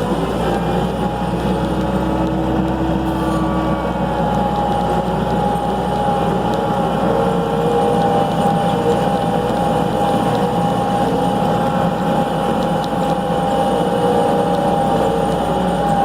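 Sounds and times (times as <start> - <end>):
skid steer engine running: 0.0 - 16.0
steady whine: 0.0 - 16.0.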